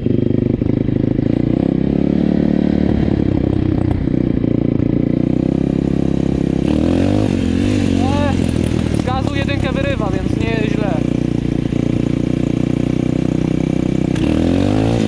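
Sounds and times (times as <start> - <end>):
pit bike engine running: 0.0 - 15.0.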